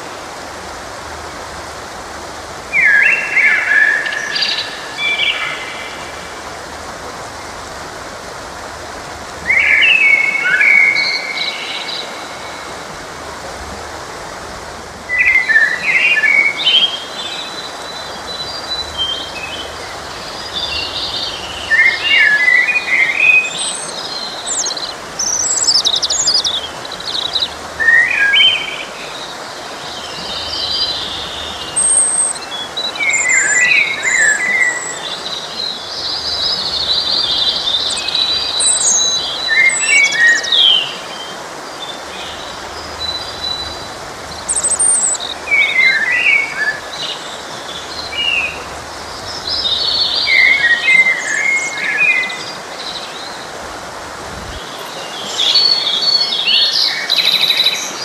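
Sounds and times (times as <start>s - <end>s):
flowing stream: 0.0s - 58.0s
songbirds singing: 2.6s - 7.6s, 9.3s - 58.0s.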